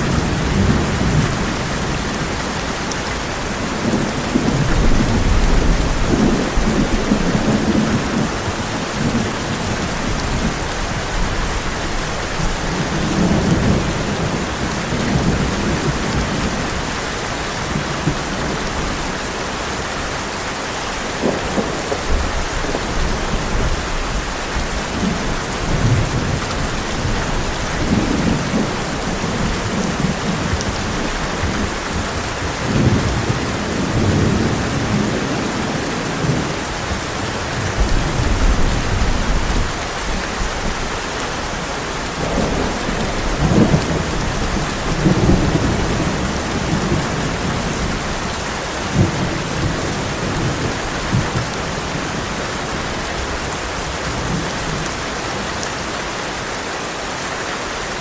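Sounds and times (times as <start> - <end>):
thunder rumbling: 0.0 - 19.1, 21.0 - 55.6
heavy rain on a tin roof: 0.0 - 58.0.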